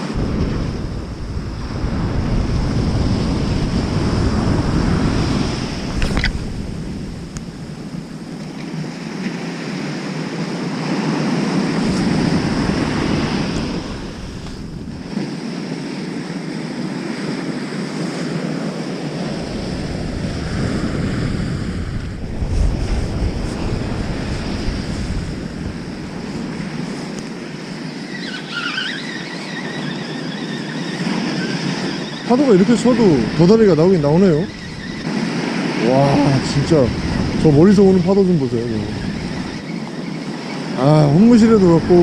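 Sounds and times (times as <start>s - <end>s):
heavy surf breaking on beach: 0.0s - 42.0s
wind buffeting microphone: 0.0s - 42.0s.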